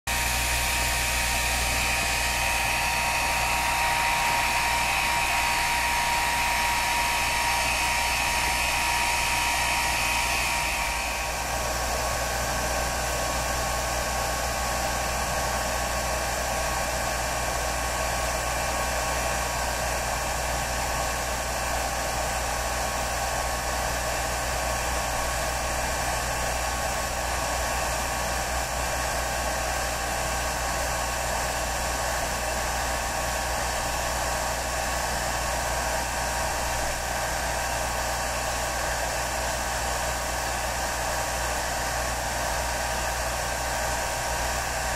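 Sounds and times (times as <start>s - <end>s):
hair dryer running: 0.1s - 44.9s.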